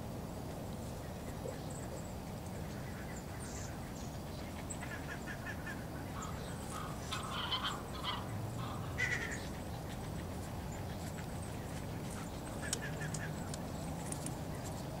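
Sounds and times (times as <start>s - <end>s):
low background noise: 0.0s - 15.0s
birds calling: 1.1s - 15.0s.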